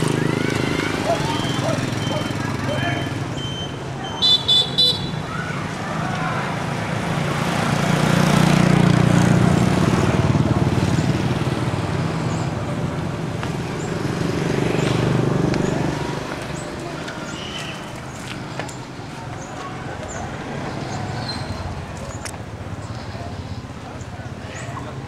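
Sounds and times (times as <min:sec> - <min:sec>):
vehicle engine humming: 0:00.0 - 0:05.0, 0:05.8 - 0:25.0.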